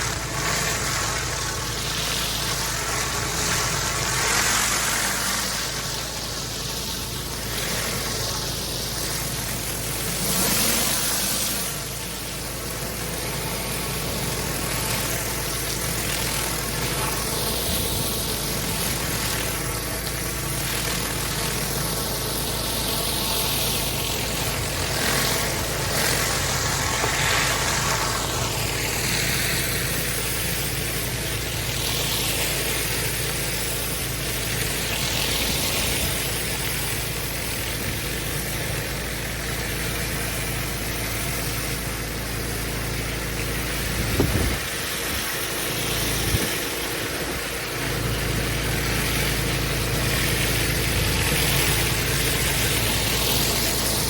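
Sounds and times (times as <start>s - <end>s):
pressure washer engine running: 0.0s - 54.0s
water jet hissing on paving: 0.0s - 54.0s.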